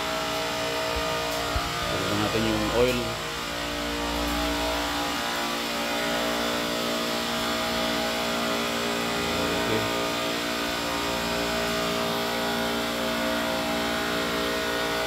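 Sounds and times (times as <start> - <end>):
compressors humming: 0.0 - 15.0.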